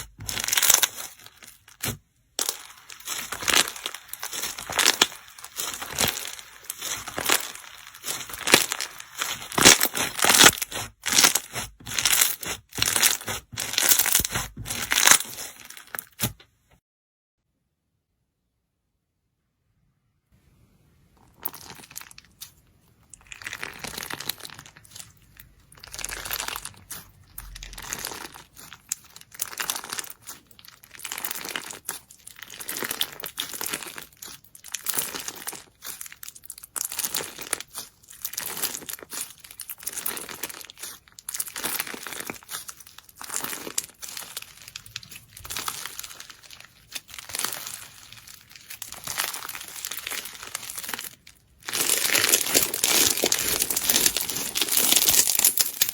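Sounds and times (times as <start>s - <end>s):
slime crackly squishes: 0.0s - 16.4s, 21.2s - 55.9s.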